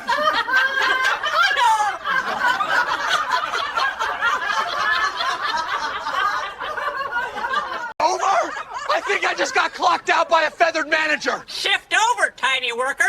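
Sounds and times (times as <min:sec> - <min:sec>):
hearty laughter and chuckling: 0:00.0 - 0:11.4.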